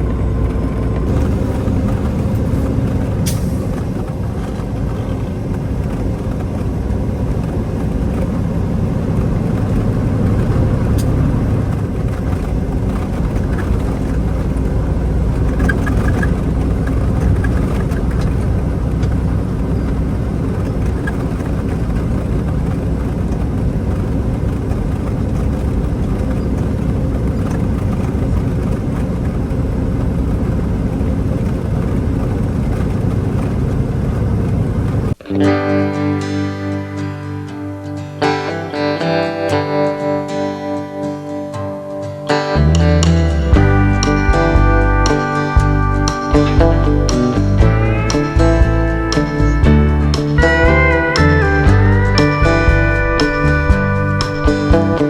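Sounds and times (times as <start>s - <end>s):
truck engine and road noise: 0.0s - 55.0s.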